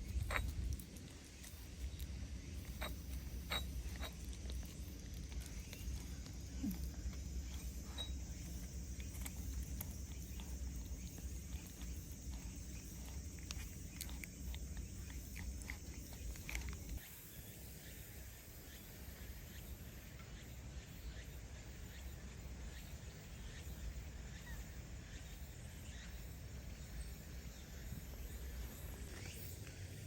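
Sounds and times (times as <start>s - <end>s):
faint insect chirps: 0.0s - 30.0s
outdoor background noise: 0.0s - 30.0s.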